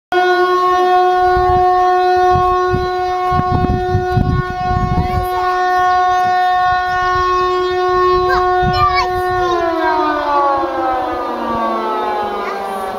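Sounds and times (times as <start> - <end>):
air raid siren: 0.1 - 12.9.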